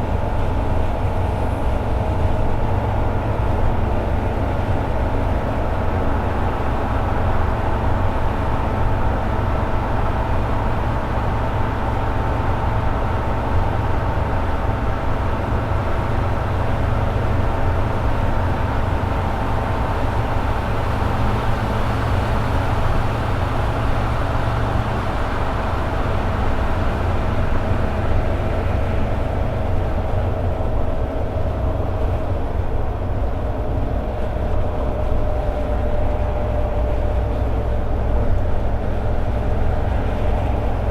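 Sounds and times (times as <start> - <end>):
constant low rumble: 0.0 - 40.9.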